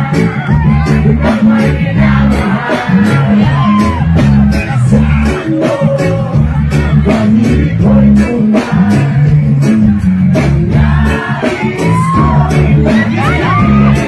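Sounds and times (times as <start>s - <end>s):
live reggae band: 0.0s - 14.0s
man singing: 0.0s - 14.0s.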